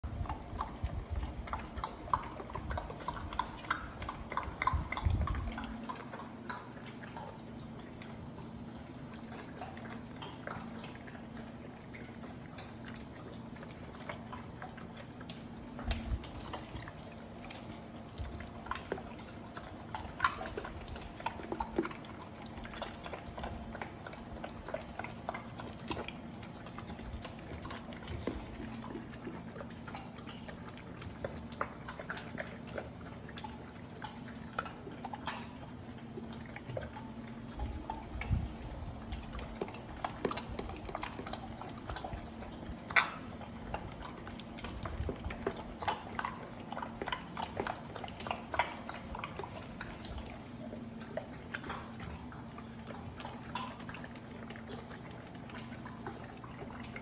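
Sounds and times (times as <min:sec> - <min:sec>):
dogs chewing kibble: 0:00.0 - 0:57.0
steady low hum: 0:00.0 - 0:57.0.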